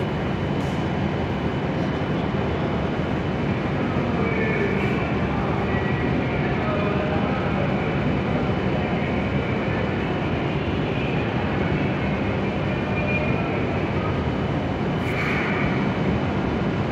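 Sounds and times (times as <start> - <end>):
train equipment humming: 0.0 - 16.9.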